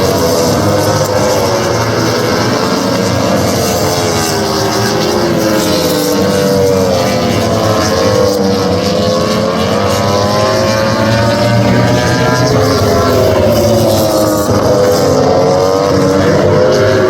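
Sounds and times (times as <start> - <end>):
motorcycle engines at high revs: 0.0 - 17.0.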